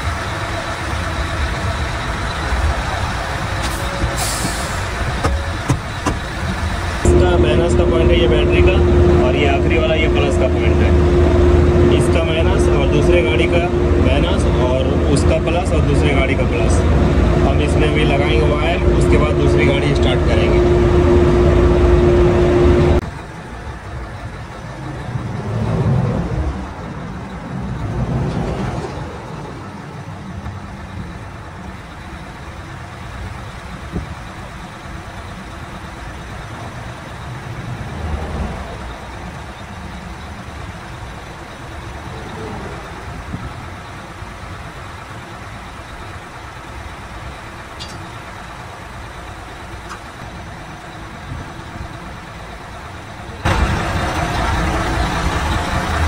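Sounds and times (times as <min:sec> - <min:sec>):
diesel truck engine idling: 0:00.0 - 0:28.2, 0:29.1 - 0:56.0.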